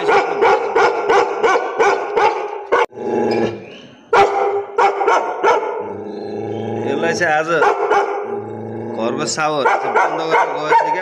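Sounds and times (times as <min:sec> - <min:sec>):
large dog barking: 0:00.0 - 0:03.0, 0:04.1 - 0:11.0.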